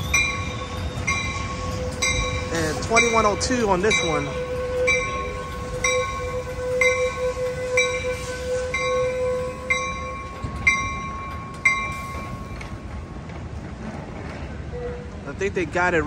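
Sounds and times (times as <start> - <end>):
train bell ringing: 0.0 - 12.9.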